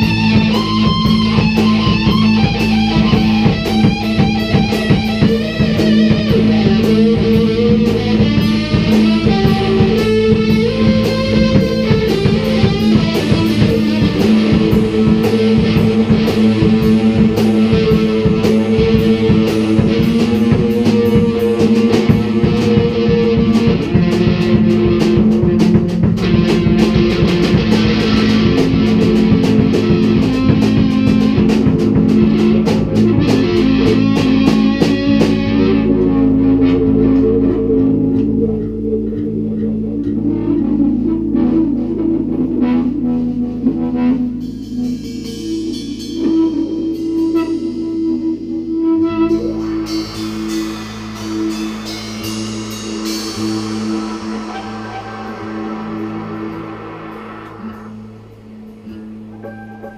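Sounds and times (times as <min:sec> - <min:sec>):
drum kit with cymbals: 0:00.0 - 0:37.5, 0:41.9 - 0:59.9
bass guitar: 0:00.0 - 0:59.9
electric guitar: 0:00.0 - 0:59.9.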